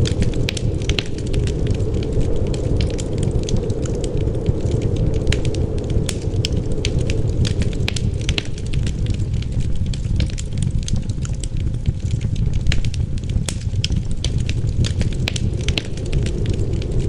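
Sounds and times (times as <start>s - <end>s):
wind rushing: 0.0s - 17.0s
wood fire crackling: 0.0s - 17.0s.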